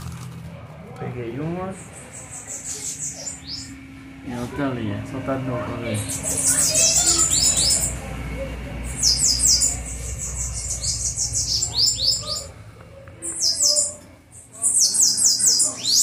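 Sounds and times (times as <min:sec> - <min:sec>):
birds chirping: 0:00.3 - 0:16.0.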